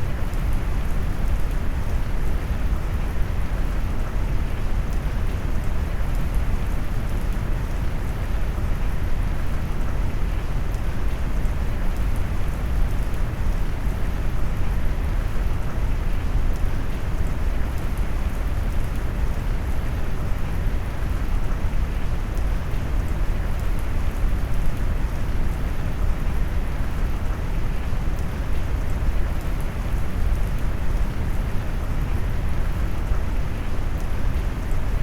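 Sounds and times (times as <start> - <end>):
low warm brown noise rush: 0.0 - 35.0
faint raindrop ticks: 0.1 - 35.0.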